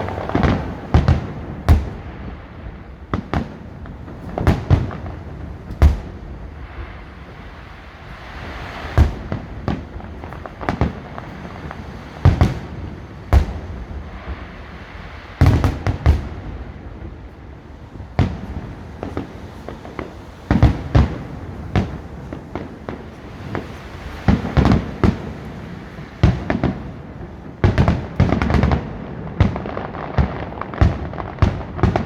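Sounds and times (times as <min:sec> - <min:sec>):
fireworks loud sharp bangs: 0:00.0 - 0:17.2, 0:17.8 - 0:32.0
rumble of fireworks bursts: 0:00.0 - 0:32.0.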